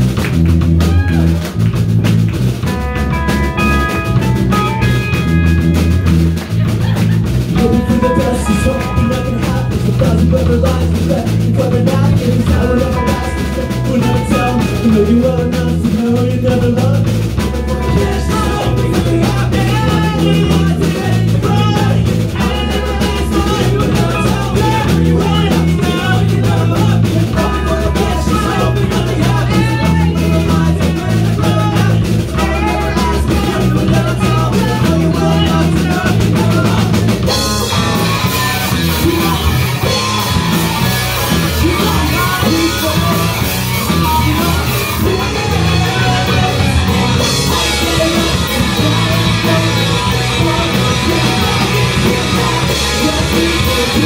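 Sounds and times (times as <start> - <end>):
bass guitar: 0.0 - 54.0
distorted electric guitar: 0.0 - 54.0
drum kit: 0.0 - 54.0
man singing: 2.7 - 54.0.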